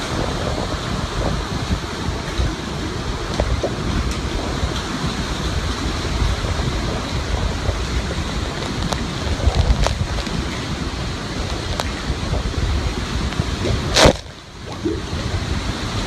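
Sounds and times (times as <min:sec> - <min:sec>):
strong wind gusts buffeting microphone: 0:00.0 - 0:16.0.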